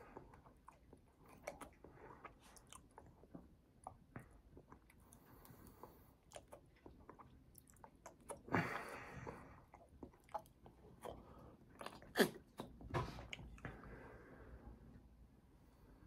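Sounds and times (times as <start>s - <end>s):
wet chewing mouth clicks: 0.0s - 13.6s.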